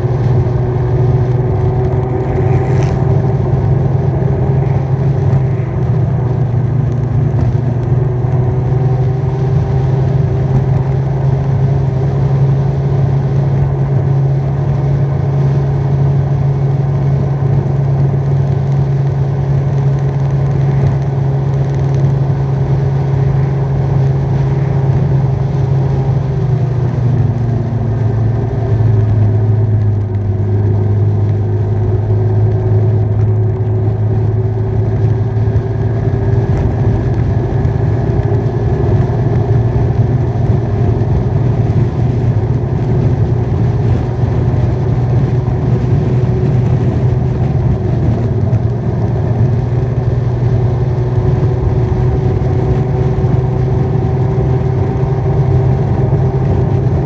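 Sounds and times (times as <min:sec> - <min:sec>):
motorbike engine running: 0:00.0 - 0:57.0
wind noise: 0:00.0 - 0:57.0.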